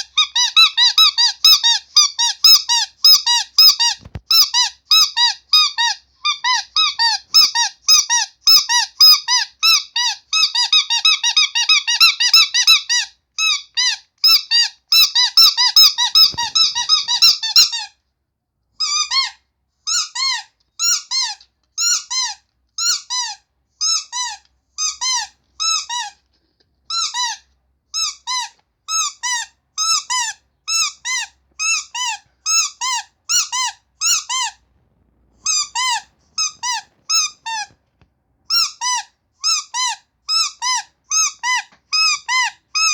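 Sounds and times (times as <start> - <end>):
squeaky toy squeaking: 0.0 - 18.0, 18.8 - 26.2, 26.9 - 34.6, 35.4 - 37.8, 38.5 - 42.9.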